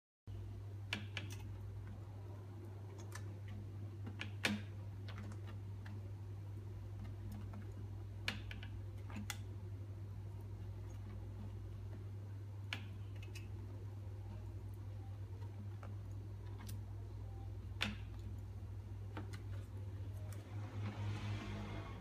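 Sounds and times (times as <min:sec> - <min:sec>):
steady low hum: 0:00.3 - 0:22.0.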